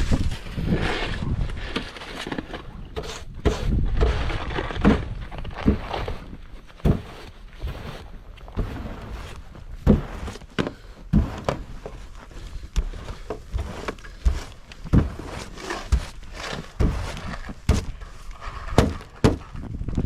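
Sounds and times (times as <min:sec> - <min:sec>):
snow shovel thumping and scraping: 0:00.0 - 0:19.8.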